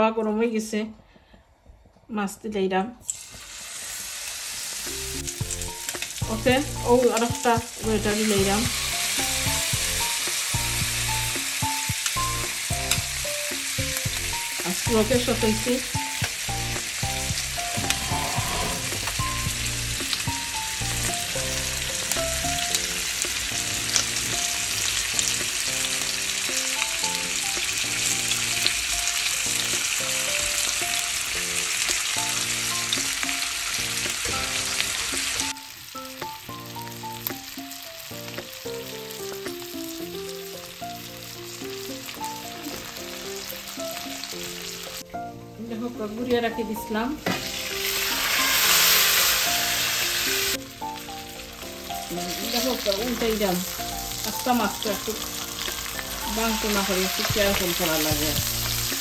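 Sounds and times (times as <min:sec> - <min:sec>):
fish sizzling in butter: 0:03.0 - 0:45.1, 0:46.1 - 0:59.0
gentle background melody: 0:04.8 - 0:59.0.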